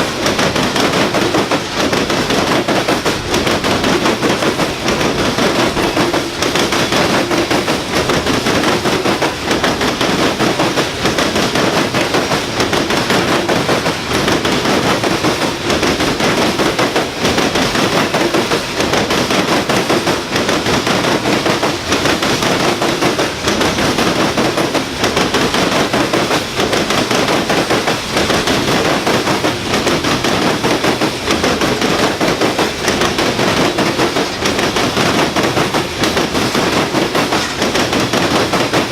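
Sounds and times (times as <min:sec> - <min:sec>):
train rumble: 0:00.0 - 0:38.9
train wheels clattering over rail joints: 0:00.0 - 0:38.9.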